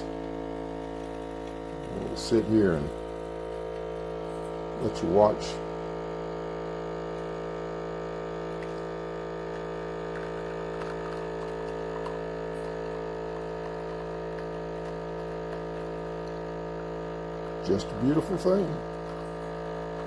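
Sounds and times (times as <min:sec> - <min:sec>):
coffee crackling running out: 0:00.0 - 0:20.0
espresso machine pump humming: 0:00.0 - 0:20.0.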